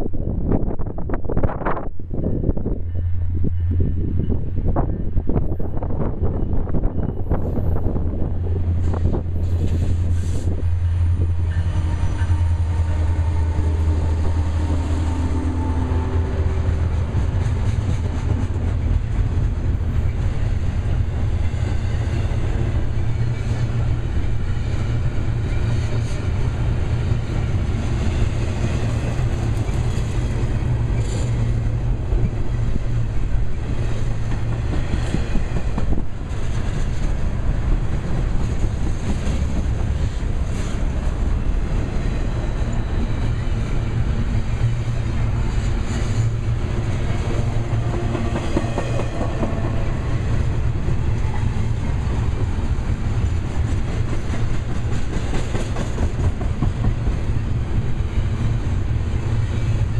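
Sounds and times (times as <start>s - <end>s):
diesel locomotive engines: 0.0s - 59.9s
train wheels on rails: 0.0s - 59.9s.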